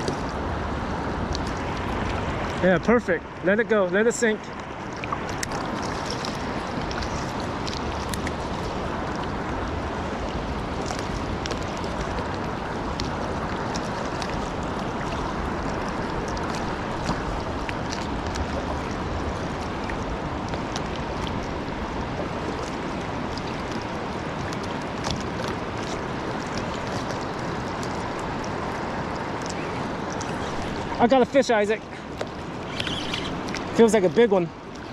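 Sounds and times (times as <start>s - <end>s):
river water rushing: 0.0s - 34.9s
small ticks and splashes: 0.0s - 34.9s.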